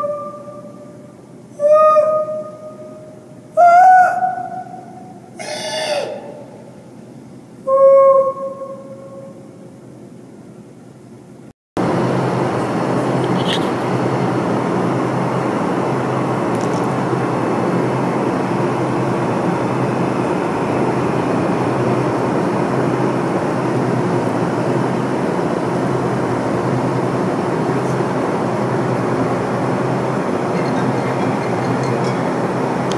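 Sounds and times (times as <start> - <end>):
steady loud noise: 0.0 - 32.9.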